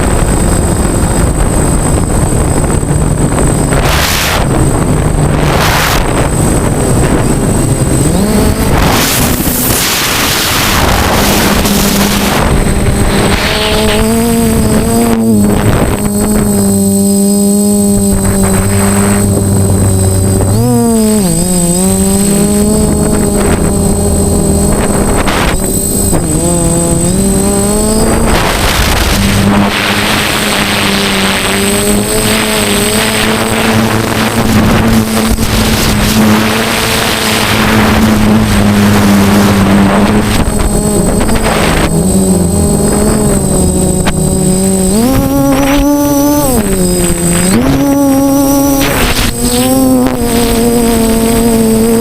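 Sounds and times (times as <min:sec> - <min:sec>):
drone motors buzzing whine: 0:00.0 - 0:52.0.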